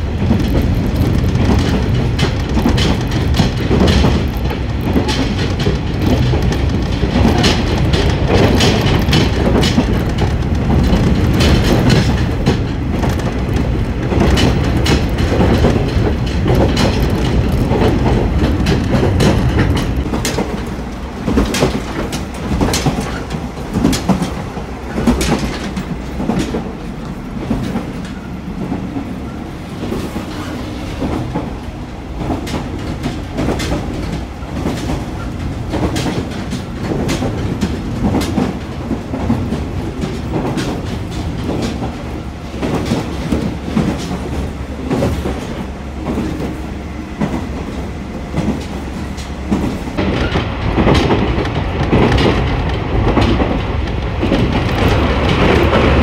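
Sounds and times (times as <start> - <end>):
railcar low rumble: 0.0 - 56.0
wheels clacking over rail joints: 0.0 - 56.0.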